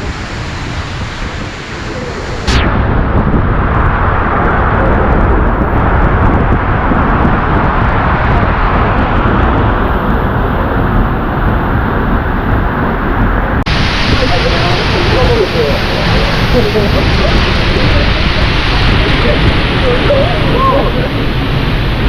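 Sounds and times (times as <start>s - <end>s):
waterfall roaring: 0.0s - 2.6s, 3.2s - 22.0s.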